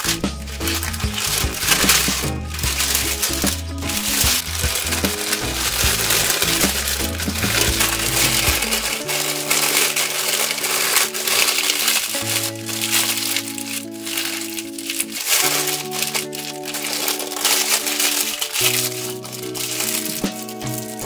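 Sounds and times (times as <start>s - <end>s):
background music with held notes: 0.0s - 21.0s
baking paper crinkling: 0.0s - 21.0s.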